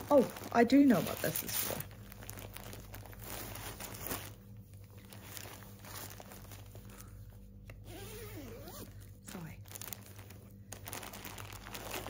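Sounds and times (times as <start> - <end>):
bag crinkling and rustling: 0.0 - 12.0.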